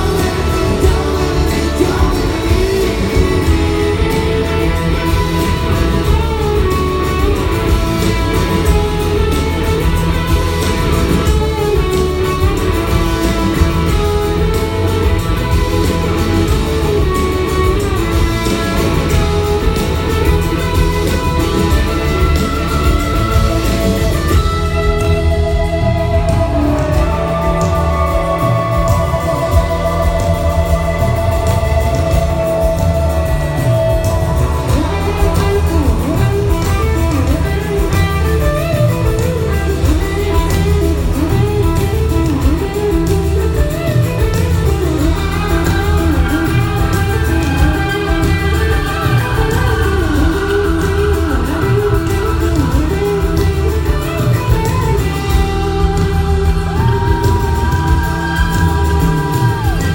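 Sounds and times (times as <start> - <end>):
rock band playing instrumental: 0.0 - 59.9.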